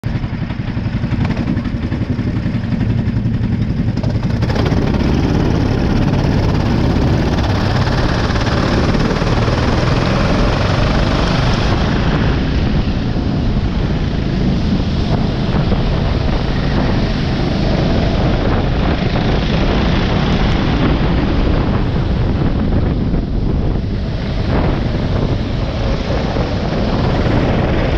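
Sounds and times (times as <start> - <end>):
go-kart engine running: 0.0 - 27.9.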